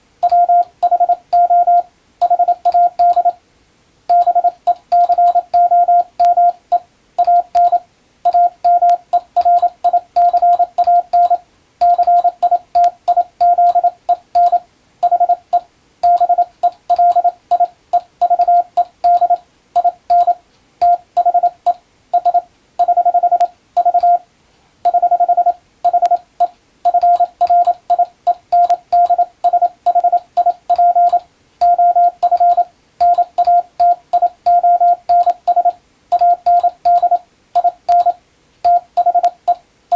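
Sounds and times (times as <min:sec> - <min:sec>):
morse code tone: 0:00.2 - 0:03.4, 0:04.1 - 0:24.2, 0:24.9 - 0:39.6.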